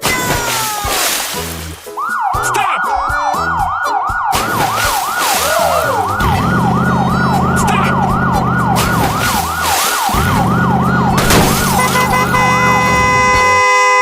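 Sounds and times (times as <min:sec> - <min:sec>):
electronic siren yelping: 0:02.0 - 0:13.5.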